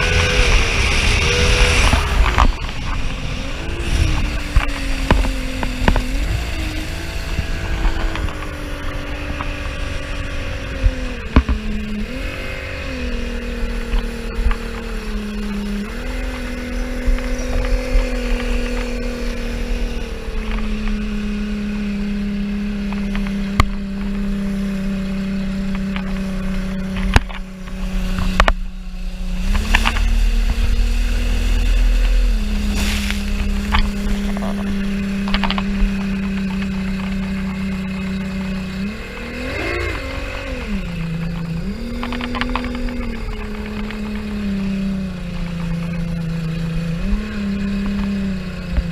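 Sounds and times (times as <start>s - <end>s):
speedboat engine running: 0.0s - 48.9s
wind rumble on microphone: 0.0s - 48.9s.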